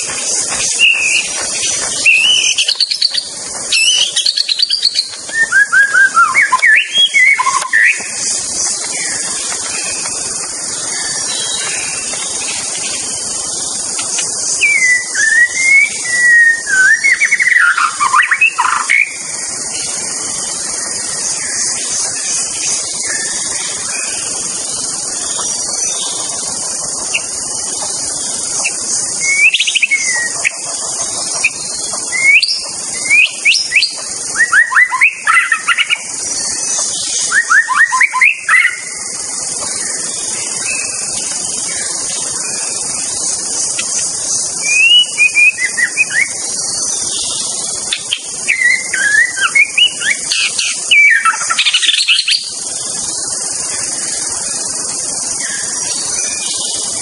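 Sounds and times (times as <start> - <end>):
shama bird singing: 0.0 - 57.0
steady high hiss: 0.0 - 57.0.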